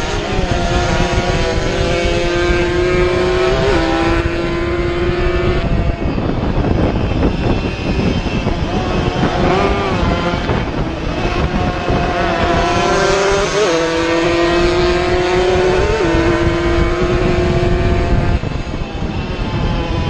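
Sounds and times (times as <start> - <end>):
racing motorcycle engine revving: 0.0 - 20.0.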